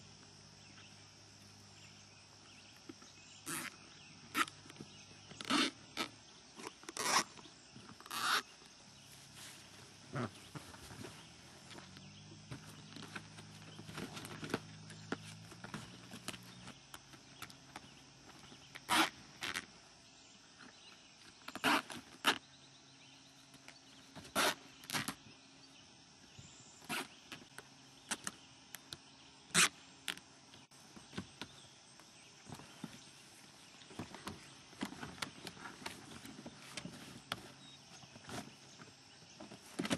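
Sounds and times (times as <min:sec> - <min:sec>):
faint steady background noise: 0:00.0 - 0:39.9.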